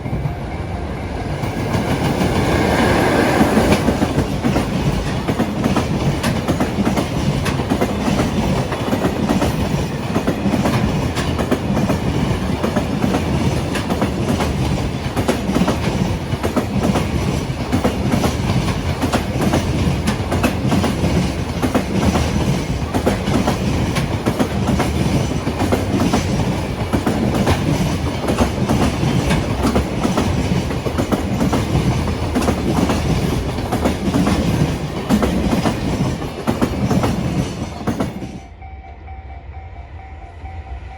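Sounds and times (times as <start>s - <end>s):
freight train rolling past: 0.0s - 40.9s
train wheels clicking over rail joints: 1.2s - 38.4s.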